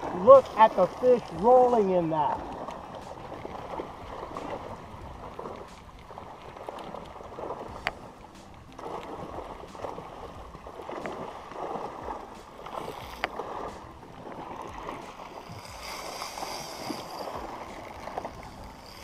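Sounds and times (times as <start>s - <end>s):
water lapping against boat hull: 0.0s - 19.0s.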